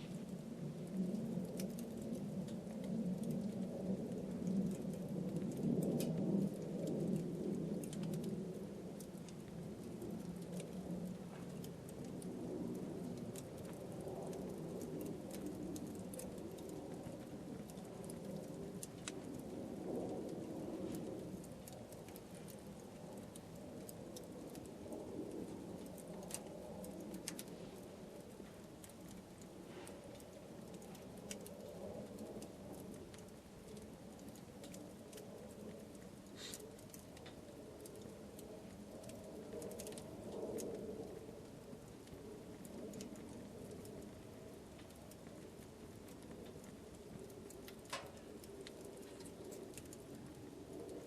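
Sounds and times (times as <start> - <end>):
campfire burning: 0.0 - 51.0
wood crackling and popping: 0.0 - 51.0.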